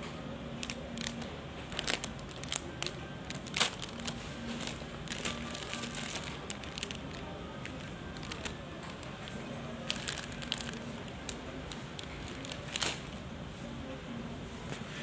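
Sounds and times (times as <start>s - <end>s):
murmur of distant voices: 0.0s - 15.0s.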